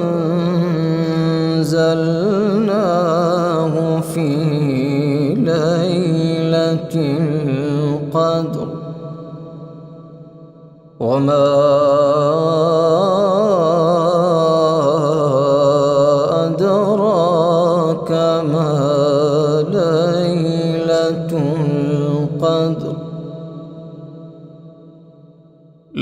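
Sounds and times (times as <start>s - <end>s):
man chanting: 0.0s - 9.8s, 11.0s - 24.6s
echo: 0.0s - 26.0s.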